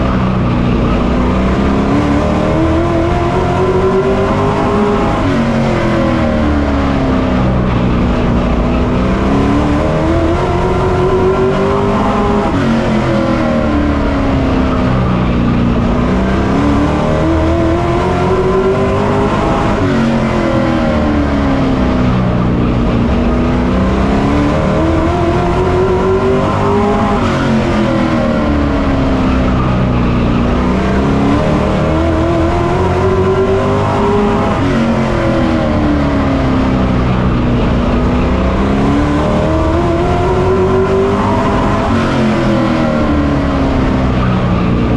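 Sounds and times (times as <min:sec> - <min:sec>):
race truck engine revving: 0:00.0 - 0:44.9.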